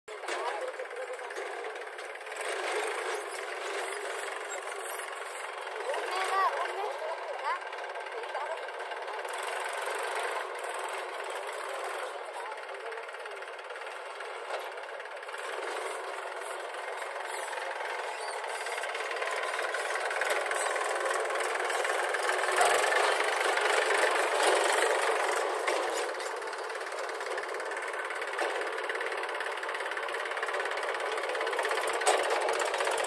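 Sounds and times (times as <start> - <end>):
diesel engines running: 0.1 - 33.0.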